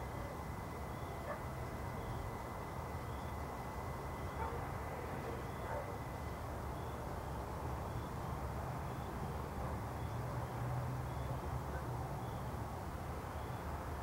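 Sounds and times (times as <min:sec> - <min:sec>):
distant city traffic hum: 0:00.0 - 0:14.0.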